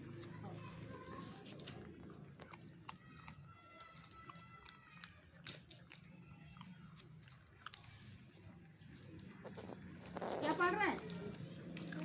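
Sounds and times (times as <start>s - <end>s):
puppy chewing pea pod: 0.0s - 12.0s.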